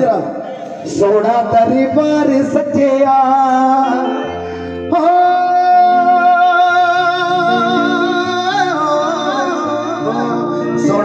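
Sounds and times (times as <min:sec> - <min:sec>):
person singing: 0:00.9 - 0:11.0.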